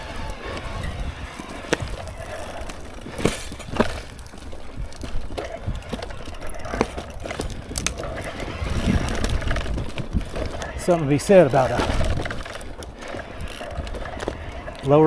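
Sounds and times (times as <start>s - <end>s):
bike knocks and rattles: 0.0s - 15.0s
bike tyre noise and rumble: 0.0s - 15.0s.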